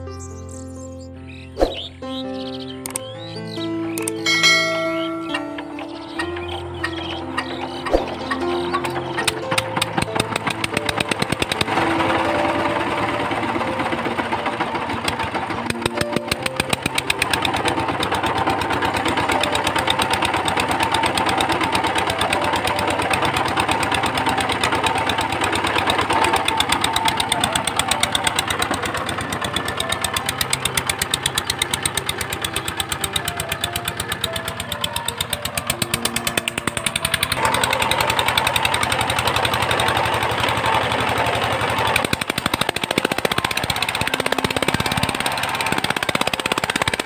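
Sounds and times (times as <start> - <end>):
background music: 0.0 - 47.0
diesel engine knocking: 2.9 - 47.0.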